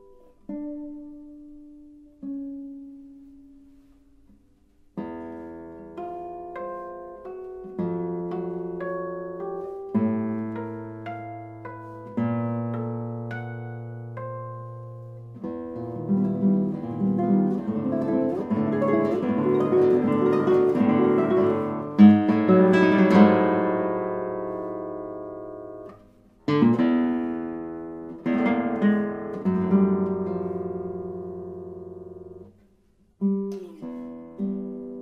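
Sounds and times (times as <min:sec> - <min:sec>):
classical guitar playing: 0:00.0 - 0:35.0.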